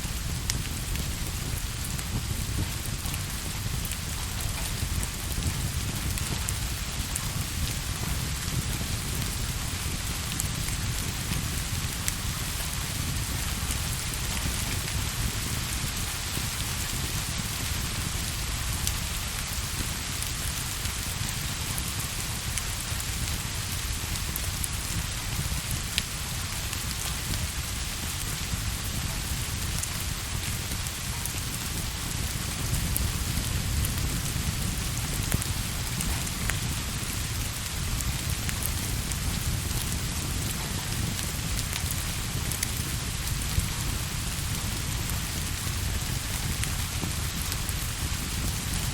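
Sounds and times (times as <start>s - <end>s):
fireplace crackles: 0.0s - 48.8s.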